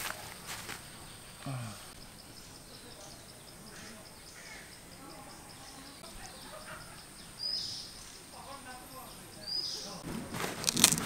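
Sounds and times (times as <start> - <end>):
insect high pulsing: 0.1 - 10.0.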